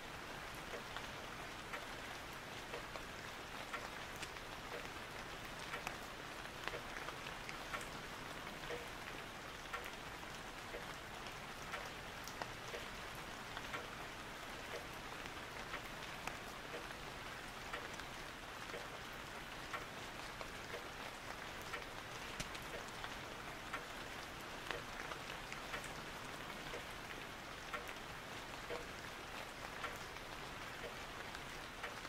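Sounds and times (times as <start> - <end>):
rain-like patter hiss: 0.0 - 32.0.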